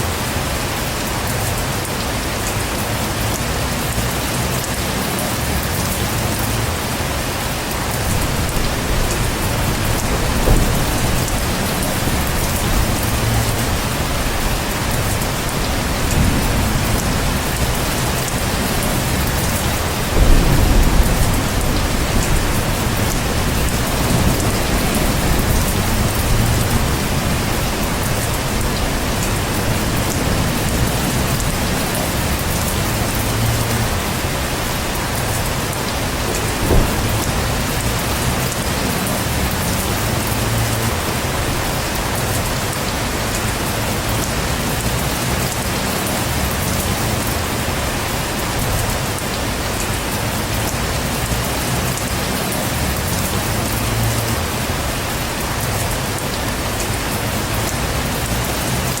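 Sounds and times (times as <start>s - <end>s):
heavy rain falling: 0.0s - 59.0s
thunder rumbling: 7.6s - 59.0s.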